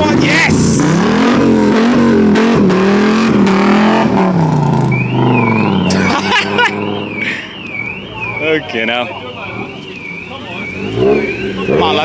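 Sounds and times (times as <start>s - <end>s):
car engine revving: 0.0s - 12.0s
warbling alarm tone: 0.6s - 12.0s.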